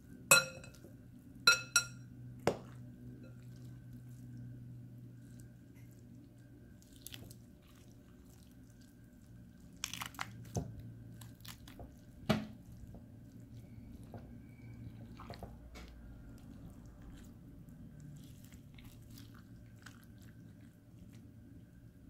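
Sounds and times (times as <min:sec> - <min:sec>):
low steady hum: 0:00.0 - 0:22.0
meat tearing and squishing: 0:03.4 - 0:21.6.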